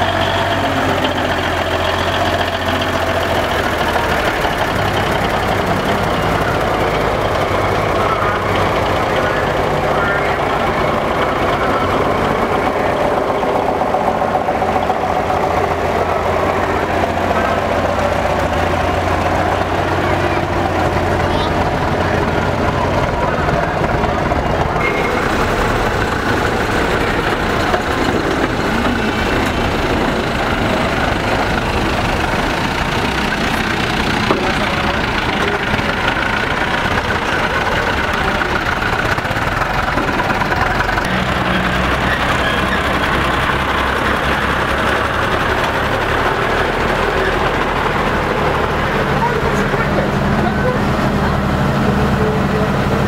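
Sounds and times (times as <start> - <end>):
deep steady engine: 0.0 - 53.0
lorry engines driving slowly past: 0.0 - 53.0.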